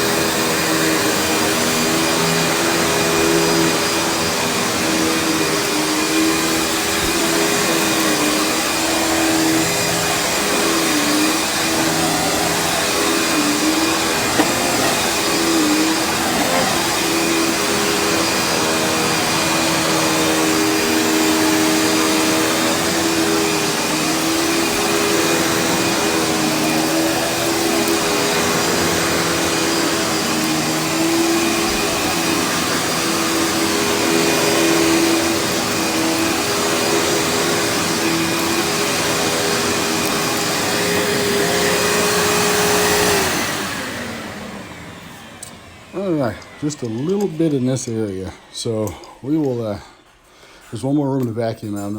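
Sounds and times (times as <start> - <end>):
vacuum cleaner on carpet: 0.0 - 51.9.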